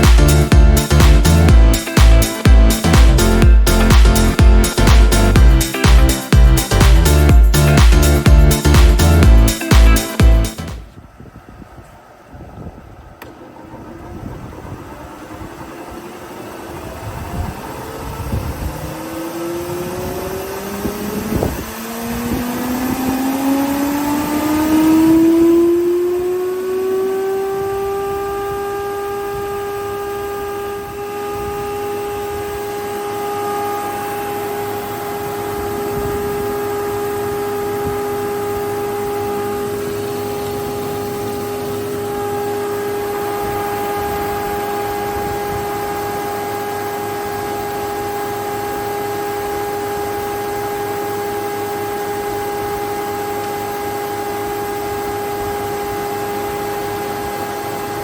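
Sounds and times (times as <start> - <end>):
thicknesser motor whining: 0.0 - 58.0.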